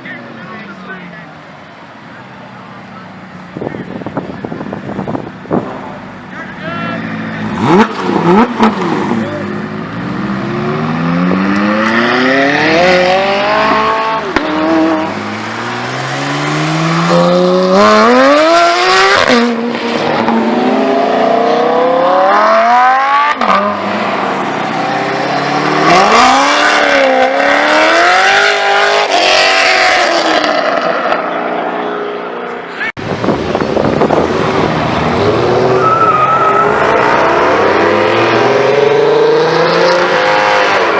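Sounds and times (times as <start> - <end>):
car engines revving hard: 0.0 - 40.9.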